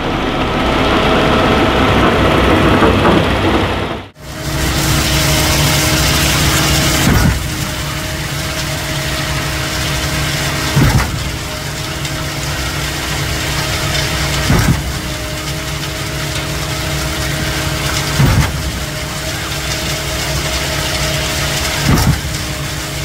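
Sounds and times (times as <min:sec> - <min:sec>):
diesel engine running: 0:00.0 - 0:23.0
heavy pump knock: 0:04.4 - 0:23.0.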